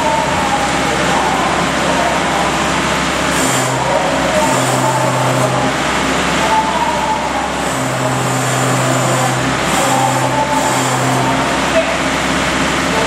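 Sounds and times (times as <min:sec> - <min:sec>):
dense machine noise: 0:00.0 - 0:13.0.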